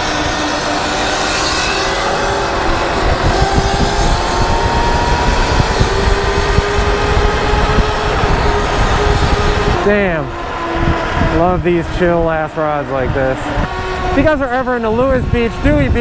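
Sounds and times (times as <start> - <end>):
electric motor whine rising: 0.0 - 14.2
wind buffeting microphone: 0.0 - 16.0.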